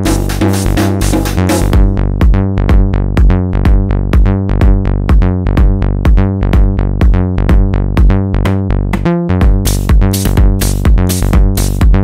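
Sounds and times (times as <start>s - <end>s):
techno kick drum: 0.0s - 12.0s.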